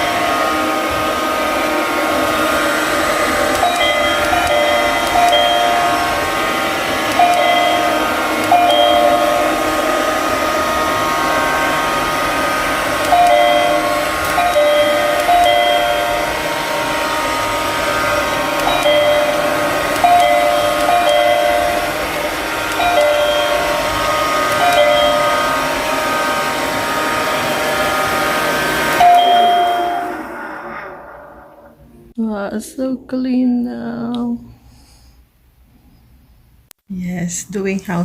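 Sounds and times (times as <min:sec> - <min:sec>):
robot vacuum motor whine: 0:00.0 - 0:32.0.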